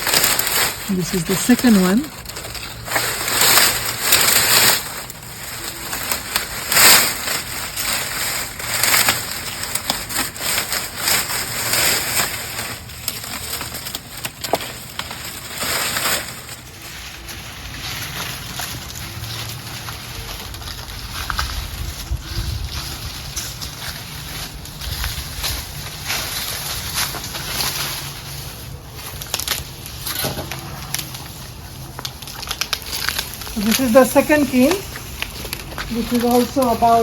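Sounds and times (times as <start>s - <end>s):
dry cane leaves rustling: 0.0s - 37.0s.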